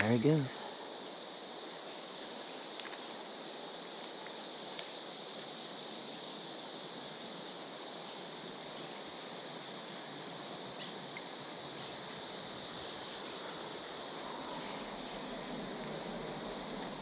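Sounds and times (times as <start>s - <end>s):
cicadas droning chorus: 0.0s - 17.0s.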